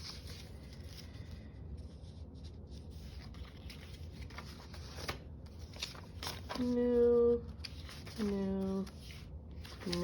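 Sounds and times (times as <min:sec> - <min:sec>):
low steady hum: 0:00.0 - 0:10.0
paper rustling and sliding: 0:00.0 - 0:10.0.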